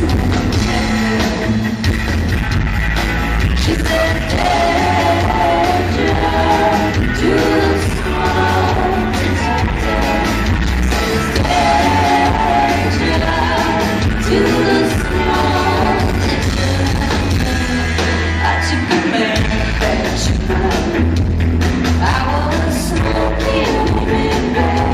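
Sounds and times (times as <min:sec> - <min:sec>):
live rock band playing: 0:00.0 - 0:24.9
woman singing lead: 0:03.6 - 0:21.3, 0:22.0 - 0:24.9.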